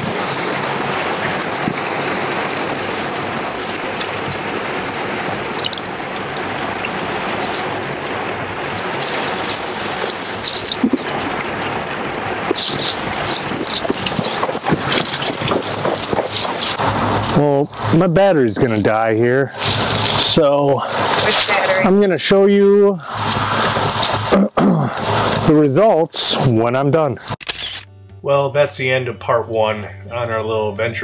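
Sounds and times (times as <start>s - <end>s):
waterfall rushing: 0.0s - 25.7s.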